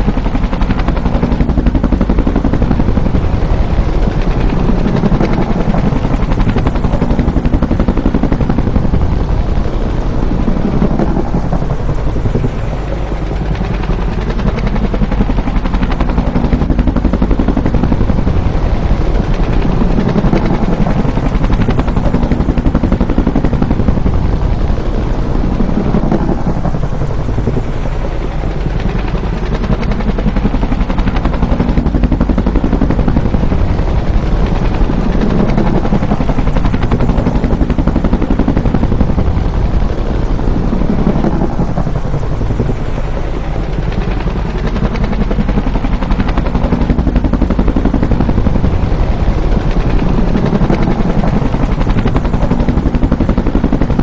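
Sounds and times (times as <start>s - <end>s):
helicopter engine rumble: 0.0s - 54.0s
helicopter rotor blades slapping: 0.0s - 54.0s.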